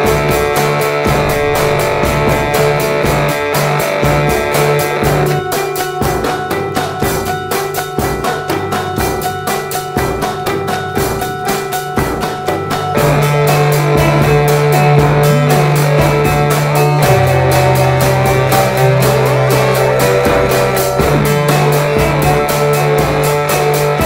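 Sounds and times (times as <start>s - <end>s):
drum-kit beat: 0.0s - 24.0s
guitar: 0.0s - 24.0s
rock music: 0.0s - 24.0s.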